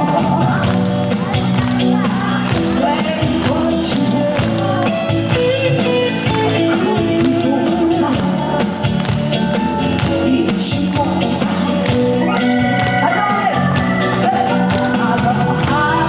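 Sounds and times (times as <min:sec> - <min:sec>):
trot song over sound system: 0:00.0 - 0:16.0.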